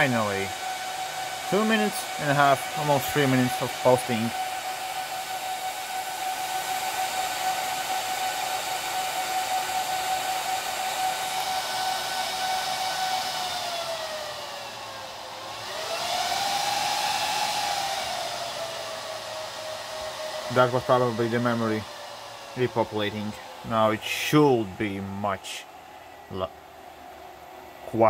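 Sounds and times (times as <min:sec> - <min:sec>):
server fans whining: 0:00.0 - 0:28.0.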